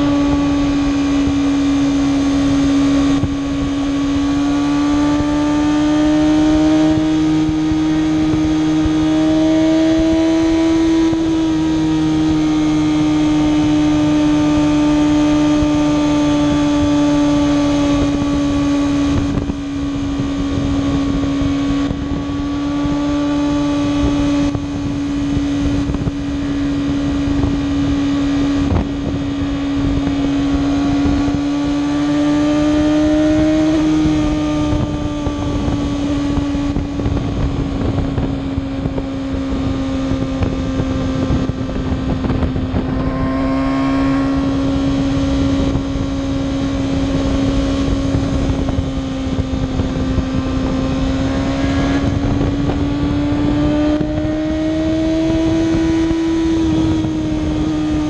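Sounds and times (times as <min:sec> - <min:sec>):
motorcycle engine cruising: 0:00.0 - 0:58.0
wind noise: 0:00.0 - 0:58.0.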